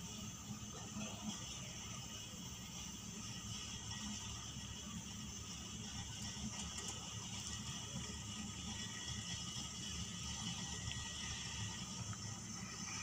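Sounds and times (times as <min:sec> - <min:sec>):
chairlift cable and pulleys rattling: 0:00.0 - 0:13.0.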